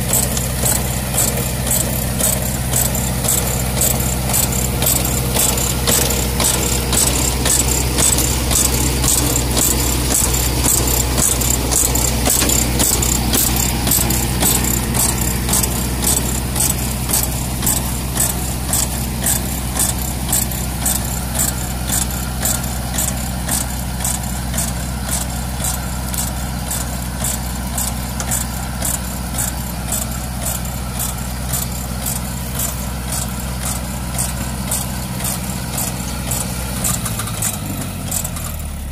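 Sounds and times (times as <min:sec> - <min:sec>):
spreader clattering: 0:00.0 - 0:38.6
tractor engine running: 0:00.0 - 0:38.9.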